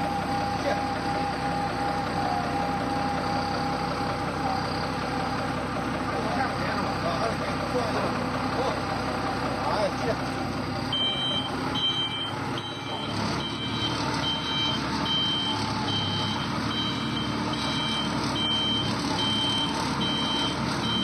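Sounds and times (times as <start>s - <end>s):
reversing alarm beeping: 0.0s - 8.6s, 9.6s - 21.0s
engine running: 0.0s - 21.0s.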